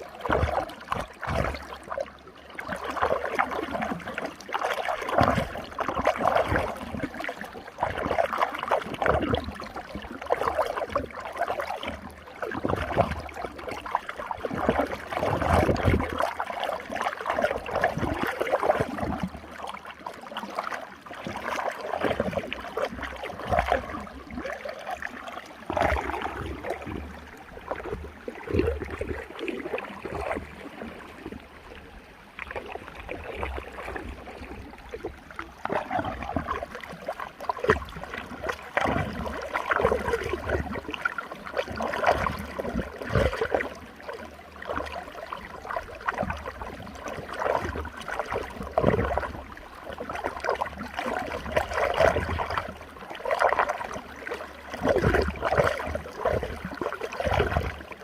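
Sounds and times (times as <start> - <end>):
water gurgling and splashing: 0.0 - 58.0.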